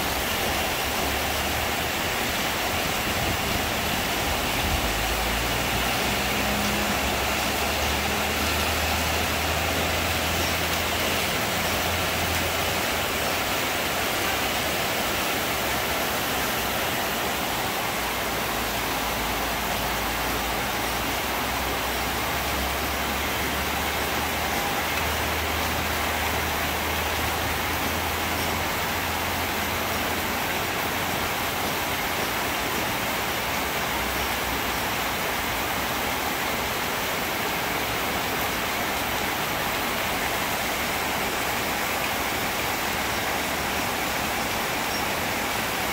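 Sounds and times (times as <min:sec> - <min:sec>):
heavy rain on leaves and metal roof: 0:00.0 - 0:45.9.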